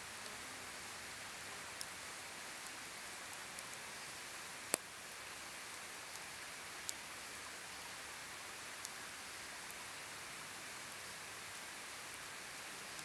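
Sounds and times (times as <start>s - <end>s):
campfire crackling and popping: 0.2s - 10.1s, 10.8s - 13.0s.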